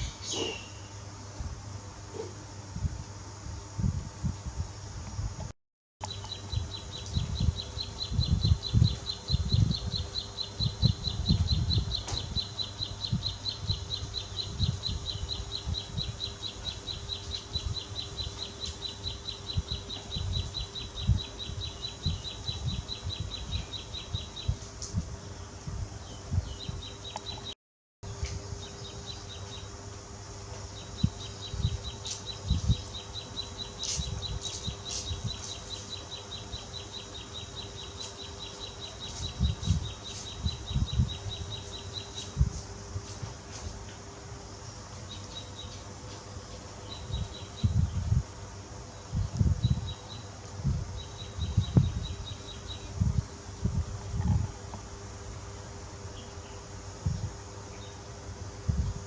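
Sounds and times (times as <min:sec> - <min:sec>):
insect chirping trill: 0:06.0 - 0:27.5, 0:28.1 - 0:59.0.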